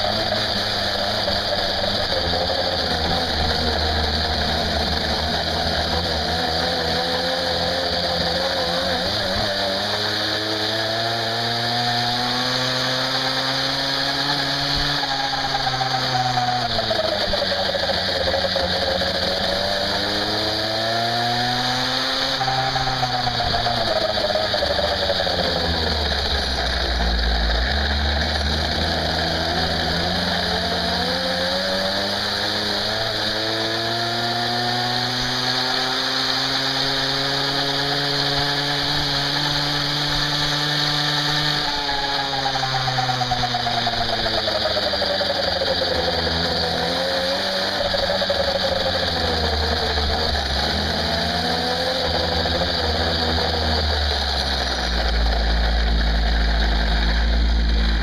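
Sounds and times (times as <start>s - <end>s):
scooter two-stroke engine running: 0.0s - 58.0s.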